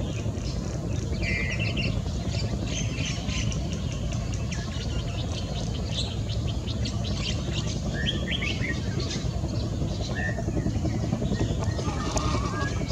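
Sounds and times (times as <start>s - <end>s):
birds chirping: 0.0s - 12.9s
low background rumble: 0.0s - 12.9s.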